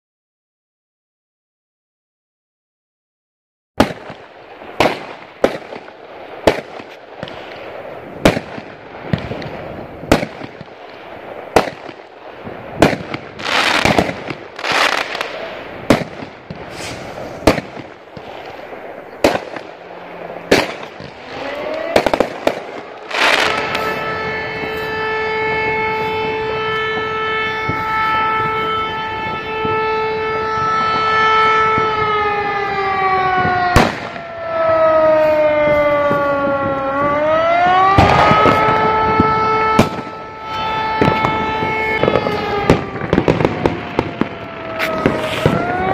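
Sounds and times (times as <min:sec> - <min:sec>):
fireworks bangs: 0:03.8 - 0:45.9
fireworks crackling: 0:03.8 - 0:45.9
siren: 0:04.0 - 0:45.9.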